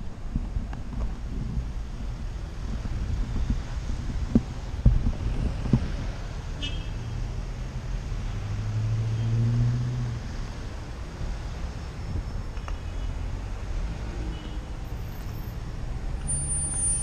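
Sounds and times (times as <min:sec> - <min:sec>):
cars passing: 0:00.0 - 0:17.0
vehicle engine hum: 0:00.0 - 0:17.0.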